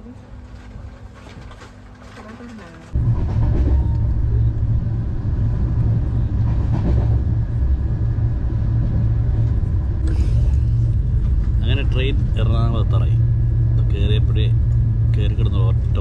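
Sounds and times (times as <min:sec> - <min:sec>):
train rumbling at speed: 0:00.0 - 0:16.0.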